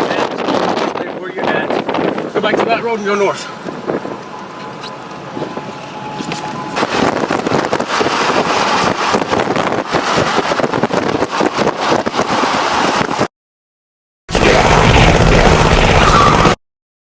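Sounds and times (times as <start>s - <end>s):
strong wind on microphone: 0.0s - 13.3s, 14.3s - 16.6s.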